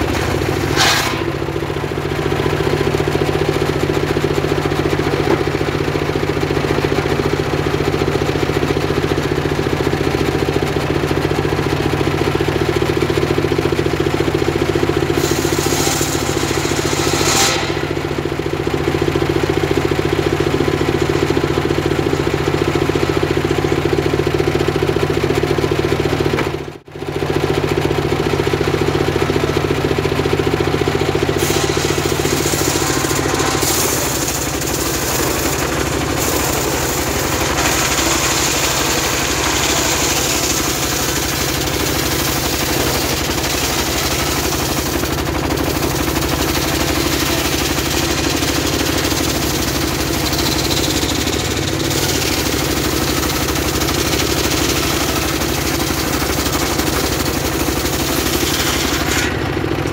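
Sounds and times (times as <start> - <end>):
circular saw cutting log: 0.0 - 26.4, 28.3 - 59.9.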